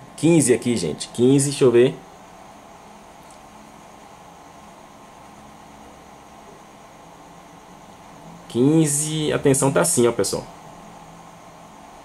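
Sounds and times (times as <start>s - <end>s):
faint constant hum: 0.0s - 12.0s
low background hiss: 0.0s - 12.0s.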